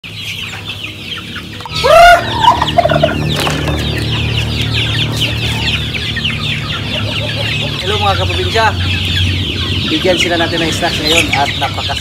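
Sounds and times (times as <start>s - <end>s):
chicks peeping: 0.0s - 12.0s
chicken clucks: 0.1s - 12.0s
chicken squawk: 0.3s - 12.0s.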